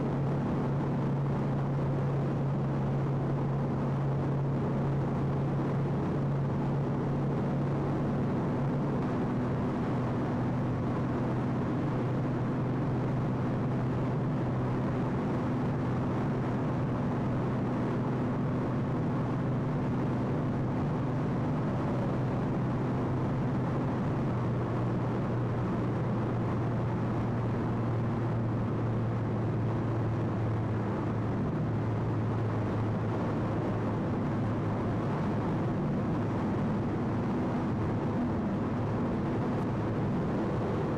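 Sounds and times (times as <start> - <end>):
car engine hum: 0.0 - 40.9.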